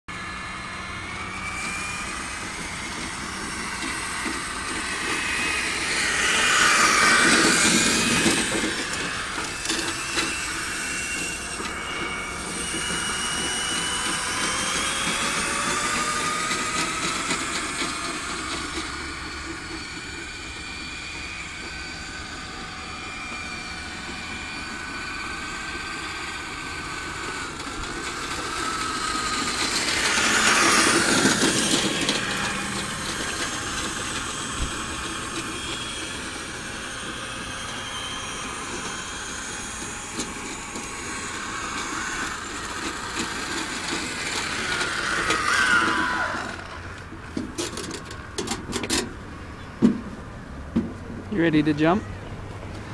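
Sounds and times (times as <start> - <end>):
electric toy truck whining: 0.1 - 52.9
wheels rolling on asphalt: 0.1 - 52.9.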